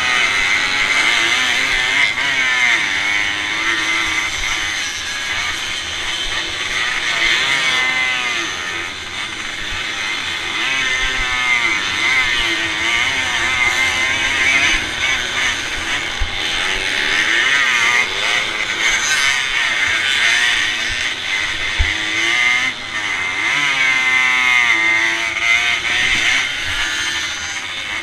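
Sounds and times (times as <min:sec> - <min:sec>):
moped engines buzzing at high revs: 0:00.0 - 0:28.0.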